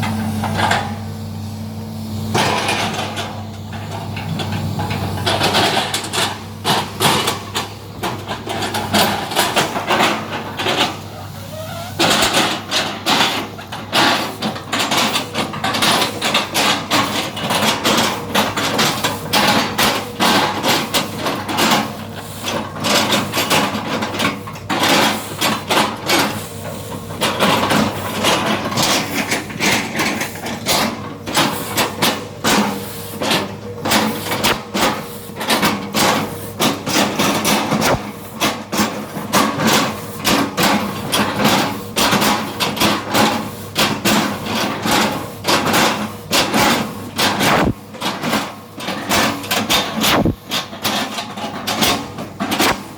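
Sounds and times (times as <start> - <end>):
excavator engine humming: 0.0 - 52.9.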